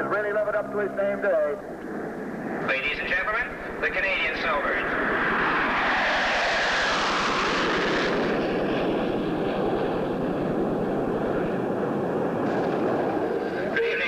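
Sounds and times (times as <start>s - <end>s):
jets flying past: 1.9s - 13.8s.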